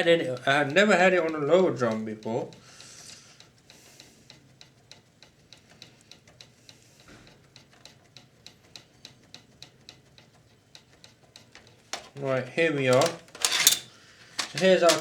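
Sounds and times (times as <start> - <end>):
faint rapid ticking: 0.0 - 13.3.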